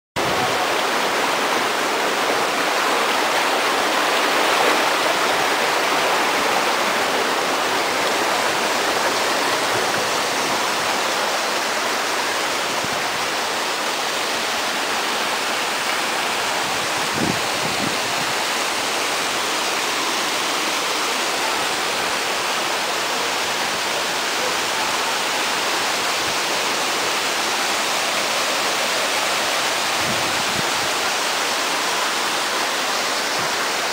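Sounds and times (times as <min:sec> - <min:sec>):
small waterfall into rock pool: 0:00.2 - 0:33.9.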